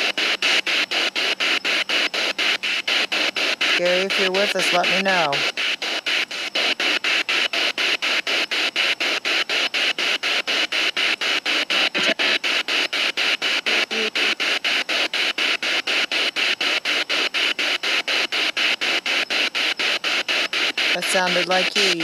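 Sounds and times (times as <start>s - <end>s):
radio static bursts: 0.0s - 22.0s.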